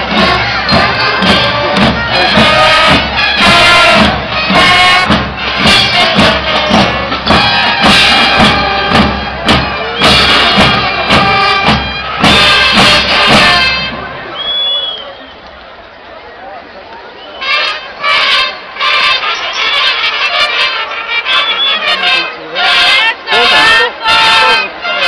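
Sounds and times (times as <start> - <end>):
school band playing: 0.0 - 14.4, 17.4 - 25.0.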